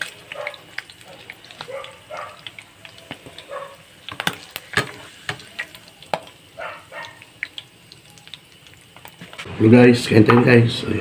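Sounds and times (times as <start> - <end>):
oil popping and spattering: 0.0 - 9.5
meat sizzling in oil: 0.0 - 10.3.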